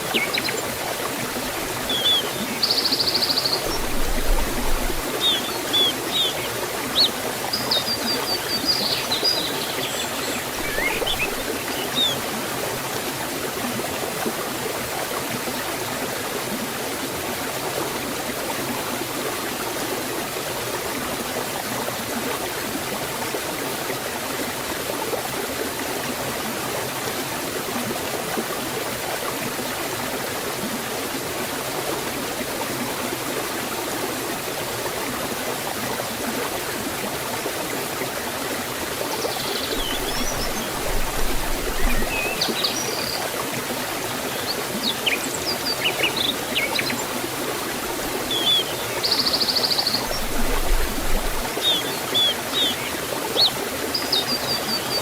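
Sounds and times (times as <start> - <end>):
water rushing down a waterfall: 0.0 - 55.0.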